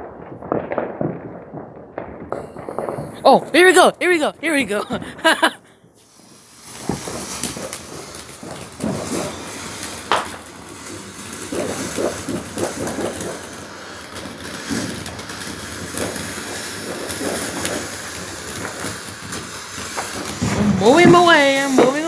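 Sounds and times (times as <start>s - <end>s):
fireworks hissing and crackling: 0.0s - 22.0s
sharp firework crack: 0.0s - 22.0s.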